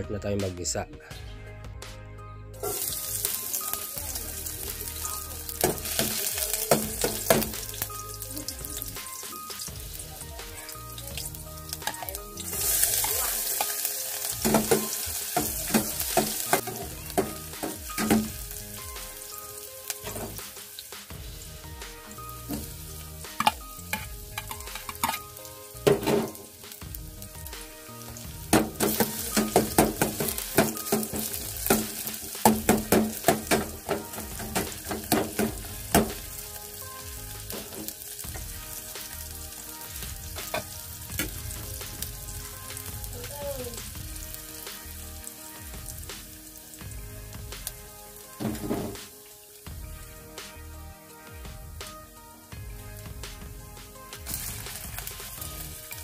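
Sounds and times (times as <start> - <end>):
food sizzling in hot oil: 2.6 - 56.0.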